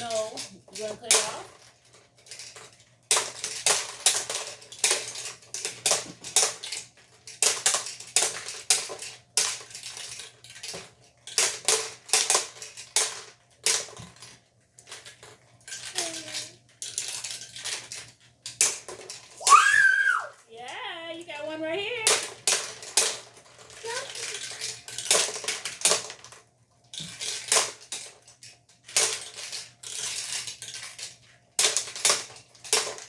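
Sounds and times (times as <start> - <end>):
plastic toy pieces clattering: 0.0 - 21.3, 22.0 - 33.0.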